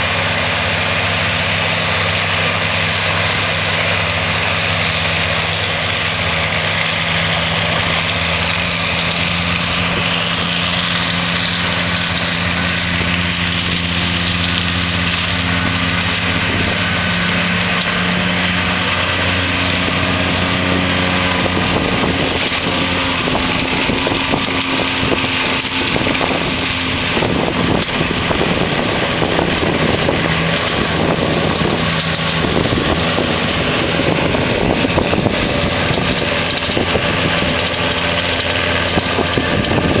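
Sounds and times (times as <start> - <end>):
tractor engine hum: 0.0 - 40.0
wind noise on microphone: 4.2 - 40.0.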